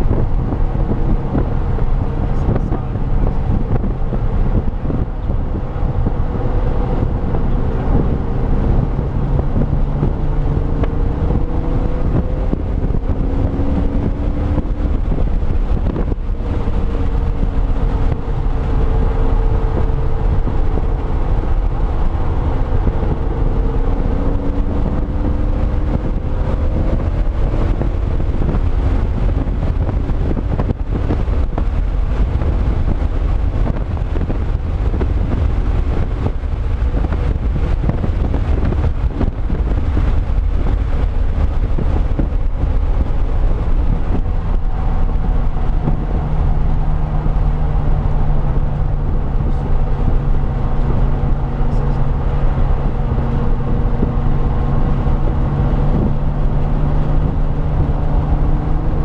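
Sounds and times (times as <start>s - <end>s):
car engine running hard: 0.0s - 59.0s
road and wind noise: 0.0s - 59.0s.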